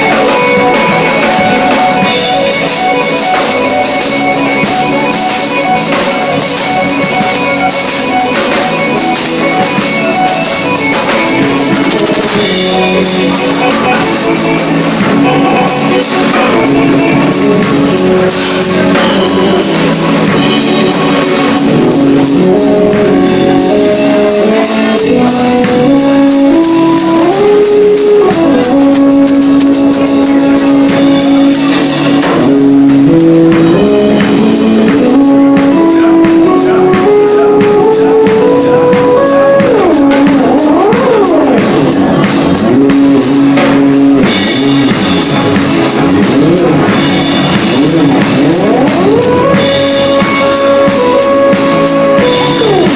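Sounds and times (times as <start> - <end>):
drum machine beat: 0.0 - 52.9
synth pitch glides: 0.0 - 52.9
synthesizer melody: 0.0 - 52.9.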